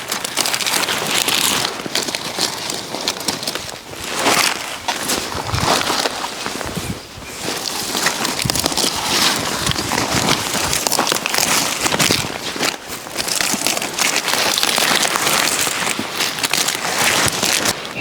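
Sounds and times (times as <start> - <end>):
leafy vegetables crackling and rustling: 0.0 - 18.0.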